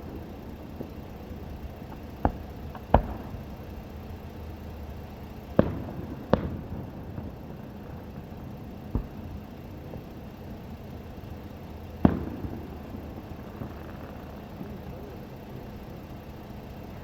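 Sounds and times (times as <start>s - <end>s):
fireworks booming: 0.0s - 4.2s, 5.0s - 17.0s.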